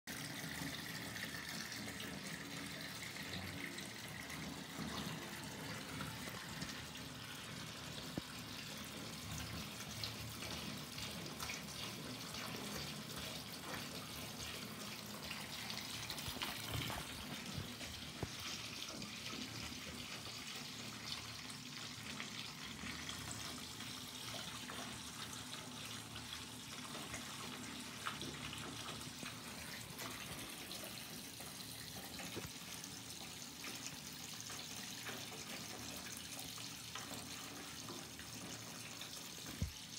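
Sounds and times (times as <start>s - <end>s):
water running from bathtub tap: 0.1s - 39.9s.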